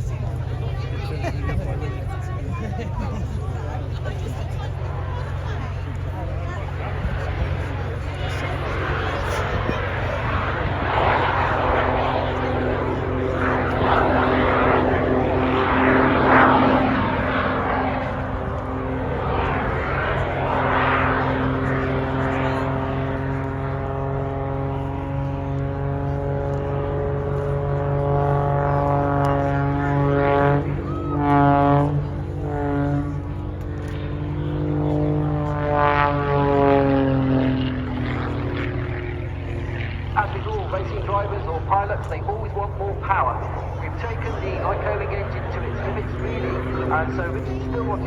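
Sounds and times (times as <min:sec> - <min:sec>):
biplane engine and propeller drone: 0:00.0 - 0:48.0.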